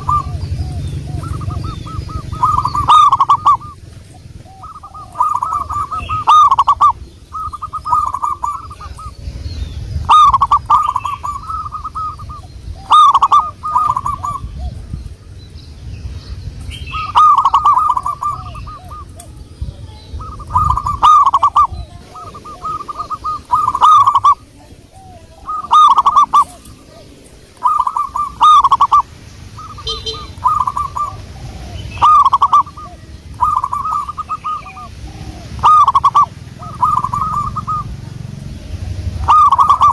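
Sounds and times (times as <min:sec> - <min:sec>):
faint lower dove coo: 0:00.0 - 0:09.4, 0:10.1 - 0:15.3, 0:16.9 - 0:38.0, 0:38.6 - 0:39.9
dove cooing: 0:00.0 - 0:15.3, 0:16.6 - 0:39.9.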